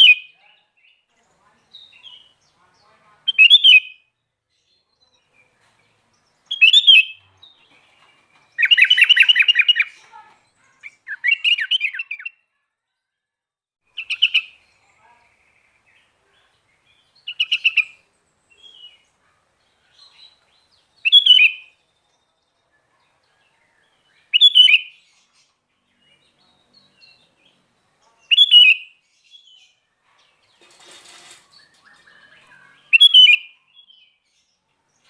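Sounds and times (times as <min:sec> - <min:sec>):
bulbul singing: 0:00.0 - 0:12.5, 0:13.9 - 0:22.9, 0:23.9 - 0:30.7, 0:31.4 - 0:34.6.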